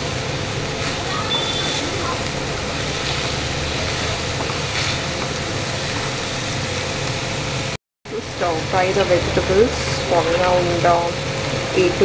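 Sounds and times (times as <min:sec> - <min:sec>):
steady low hum: 0:00.0 - 0:12.0
vegetables sizzling in a frying pan: 0:00.0 - 0:12.0.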